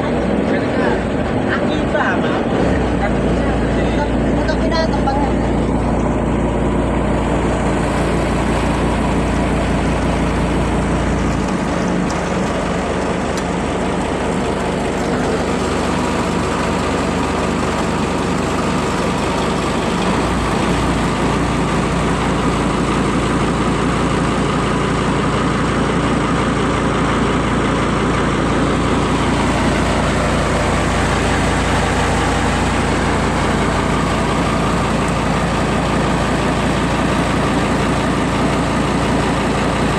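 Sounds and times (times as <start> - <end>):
ship engine droning: 0.0 - 39.9.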